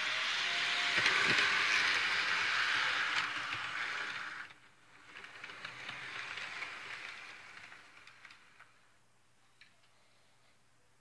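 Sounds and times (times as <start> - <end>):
model train whirring rattle: 0.0 - 8.9.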